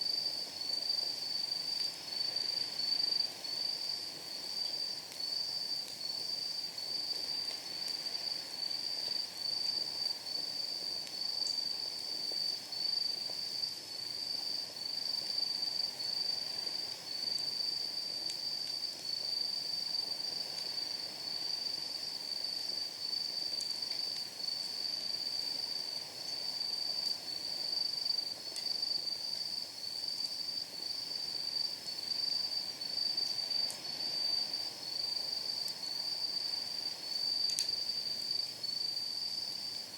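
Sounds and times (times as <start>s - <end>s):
night insects trilling: 0.0s - 39.9s
wood fire hissing: 0.1s - 39.9s.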